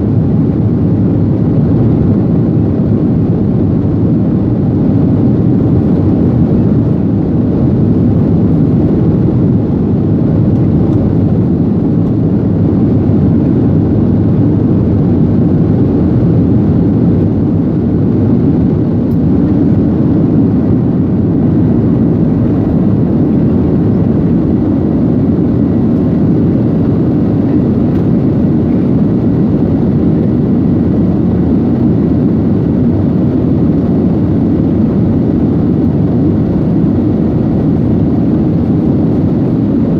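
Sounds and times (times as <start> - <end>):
jet cabin engine and airflow rumble: 0.0 - 39.9.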